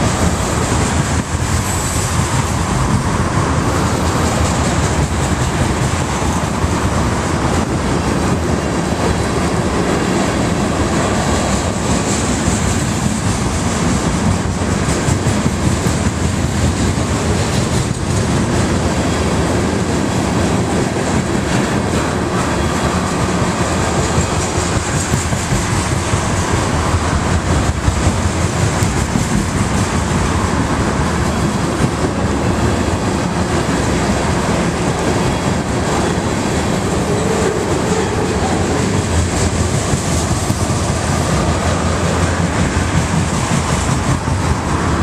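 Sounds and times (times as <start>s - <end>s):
freight train wheels rumbling: 0.0s - 45.0s
wheels clicking over rail joints: 0.0s - 45.0s.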